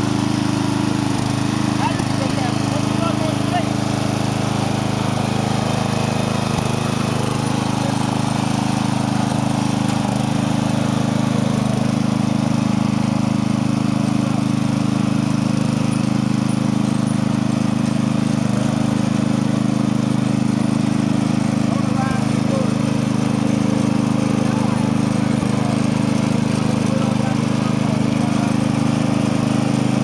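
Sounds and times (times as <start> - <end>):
riding lawn mower engine running: 0.0 - 30.0.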